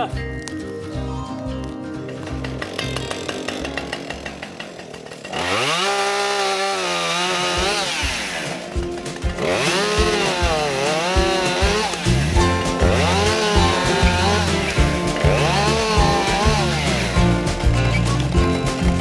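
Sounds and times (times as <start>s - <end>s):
chainsaw revving: 2.1s - 19.0s.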